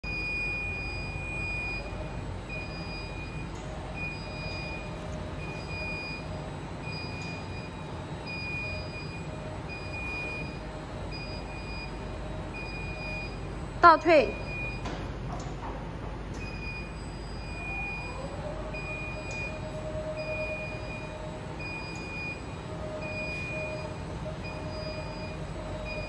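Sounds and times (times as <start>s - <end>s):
warning beeper long beeps: 0.0s - 14.9s, 16.4s - 26.0s.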